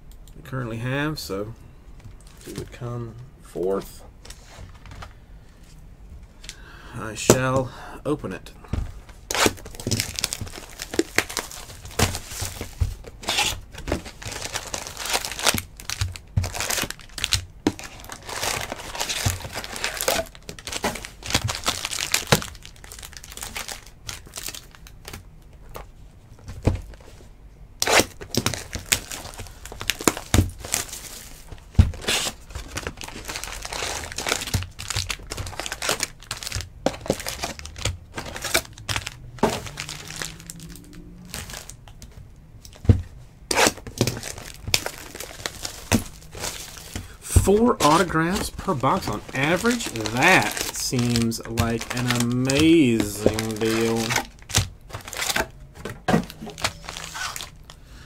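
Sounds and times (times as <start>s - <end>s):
plastic shrink wrap crinkling: 9.0s - 27.1s, 27.8s - 57.8s.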